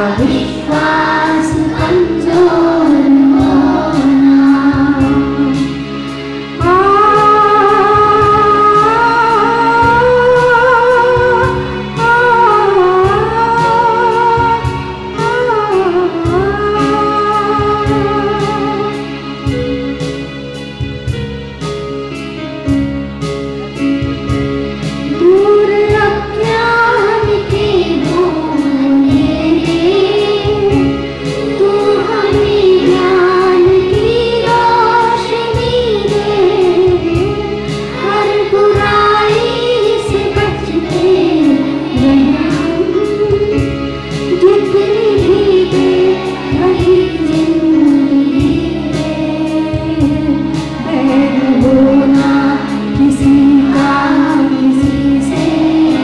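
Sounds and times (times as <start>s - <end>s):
woman singing: 0.0s - 5.8s, 6.6s - 19.0s, 25.1s - 56.0s
instrumental accompaniment with beat: 0.0s - 56.0s.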